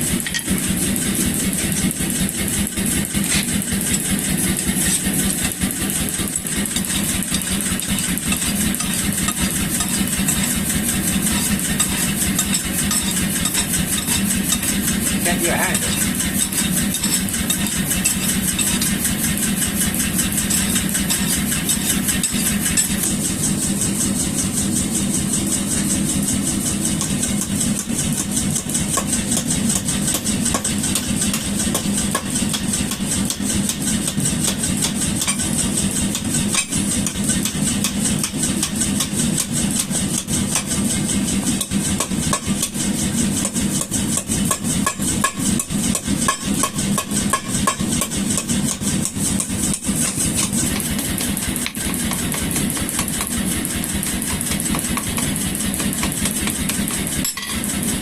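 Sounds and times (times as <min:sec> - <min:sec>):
power hammer striking: 0:00.0 - 0:23.9, 0:26.5 - 0:58.0.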